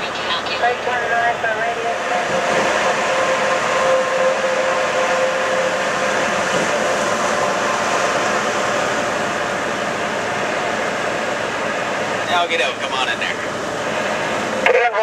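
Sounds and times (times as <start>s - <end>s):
road and wind noise: 0.0s - 15.0s
truck engine drone: 0.0s - 15.0s.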